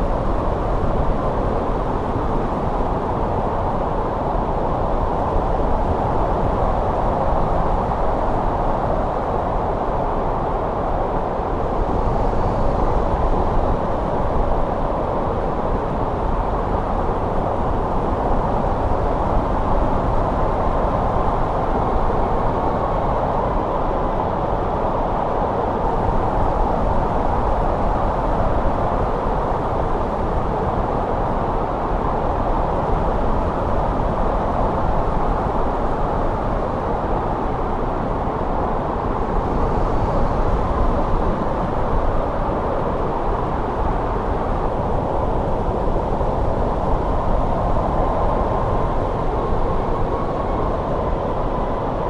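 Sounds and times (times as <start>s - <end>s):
snowstorm wind rushing: 0.0s - 52.0s.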